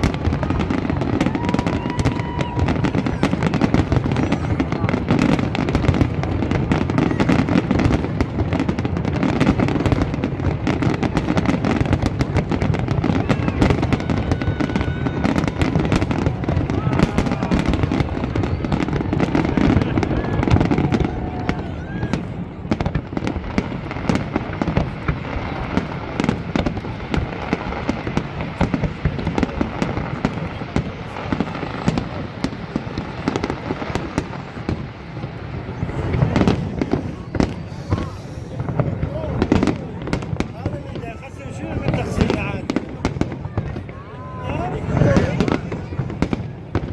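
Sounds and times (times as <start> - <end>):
fireworks crackling and popping: 0.0 - 46.9
fireworks low booms: 0.0 - 46.9.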